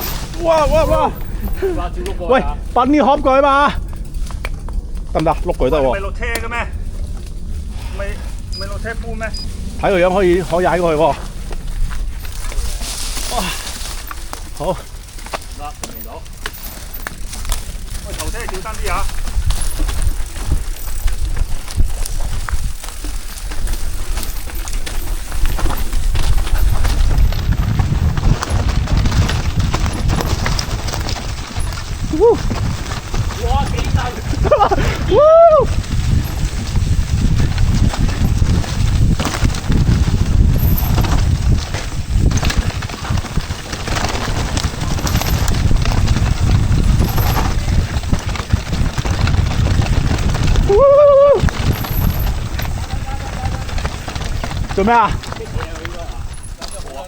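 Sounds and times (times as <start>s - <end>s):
bicycle tyres and frame clicking: 0.0s - 57.0s
wind rumble on microphone: 0.0s - 57.0s.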